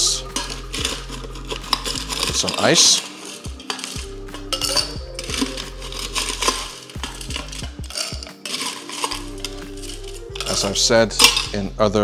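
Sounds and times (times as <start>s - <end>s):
ice cubes clinking in bucket and glass: 0.0s - 11.6s.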